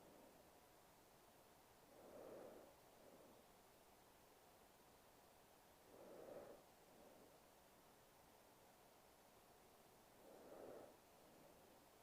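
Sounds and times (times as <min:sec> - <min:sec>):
woman breathing softly: 0:00.0 - 0:12.0.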